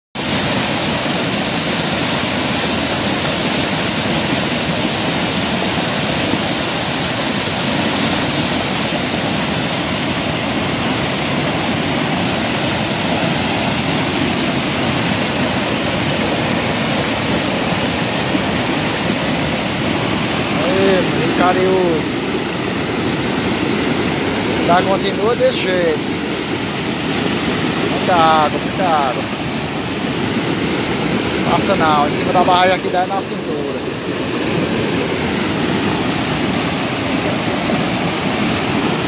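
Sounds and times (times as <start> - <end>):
floodwater rushing over dam: 0.2 - 39.0.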